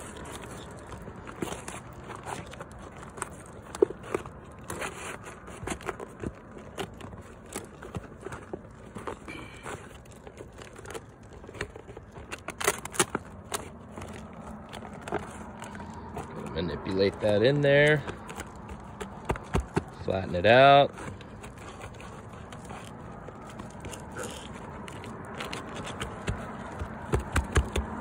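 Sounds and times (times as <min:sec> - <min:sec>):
shingles crackling and scraping: 0:00.0 - 0:28.0.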